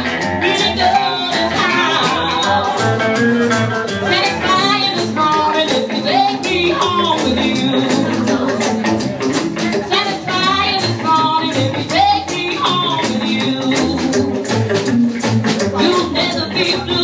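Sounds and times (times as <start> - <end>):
drum kit beat: 0.0 - 17.0
electric guitar: 0.0 - 17.0
upright double bass: 0.0 - 17.0
woman singing with vibrato: 0.3 - 3.1, 4.0 - 9.0, 9.7 - 14.5, 15.8 - 17.0.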